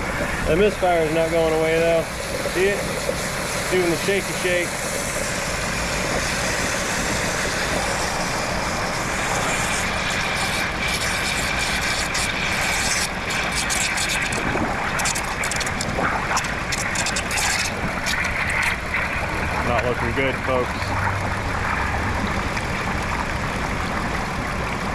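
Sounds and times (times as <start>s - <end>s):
engine idling rough with misfire: 0.0s - 24.9s
water hissing and bubbling from hose: 0.0s - 24.9s.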